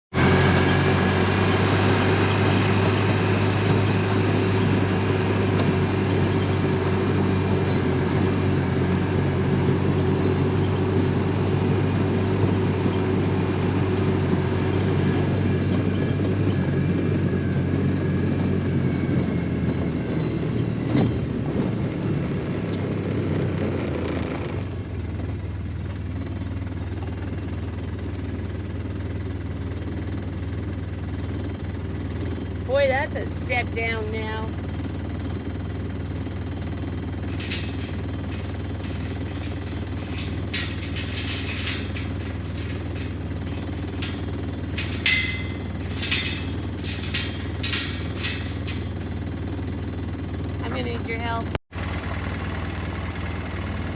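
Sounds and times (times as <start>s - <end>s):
vehicle engine running: 0.1s - 53.9s.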